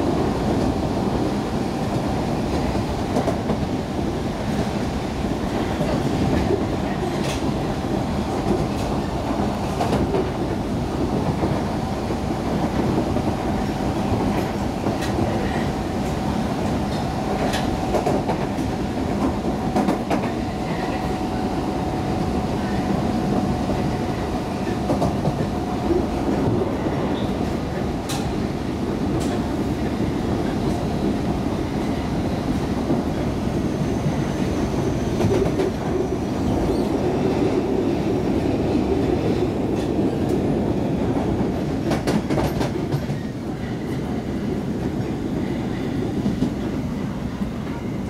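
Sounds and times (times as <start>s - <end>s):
train rumbling on rails: 0.0s - 48.0s.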